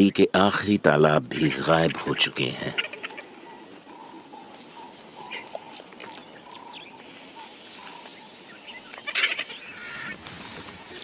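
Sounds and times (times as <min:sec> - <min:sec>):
vultures calling: 0:00.0 - 0:11.0
harsh vulture call: 0:01.3 - 0:11.0.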